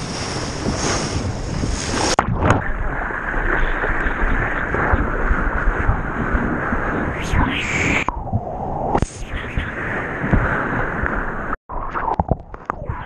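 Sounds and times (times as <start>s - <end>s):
seawater sloshing and rushing: 0.0s - 13.0s.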